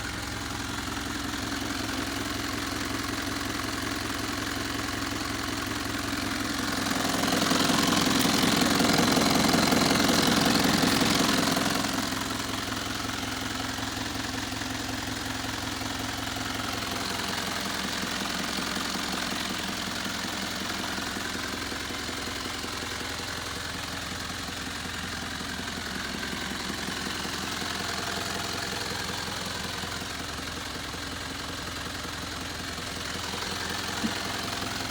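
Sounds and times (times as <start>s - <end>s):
diesel bus engine idling: 0.0s - 34.9s.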